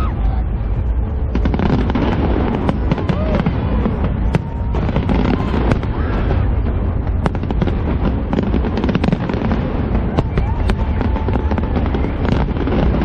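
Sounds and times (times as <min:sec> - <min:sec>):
crowd voices calling out: 0:00.0 - 0:07.2, 0:08.8 - 0:13.0
continuous low rumble: 0:00.0 - 0:13.0
fireworks cracks and bangs: 0:00.0 - 0:13.0.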